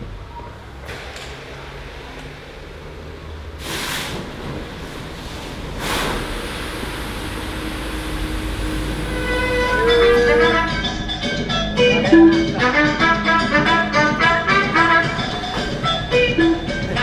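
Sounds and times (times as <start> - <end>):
vehicle rumbling on the move: 0.0 - 17.0.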